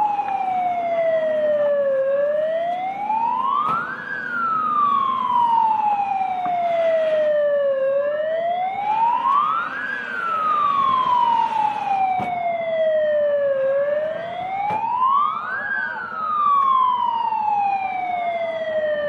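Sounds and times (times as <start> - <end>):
fire engine siren wailing: 0.0 - 19.0.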